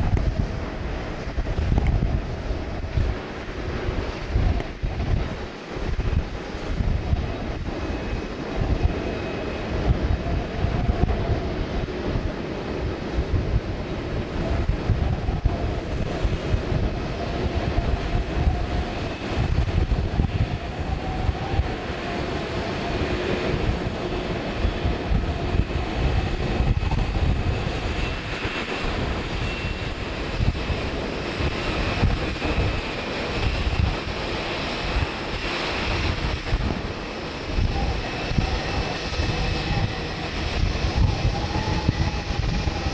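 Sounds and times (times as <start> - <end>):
jet engines whining: 0.0 - 42.9
wind buffeting microphone: 0.0 - 42.9.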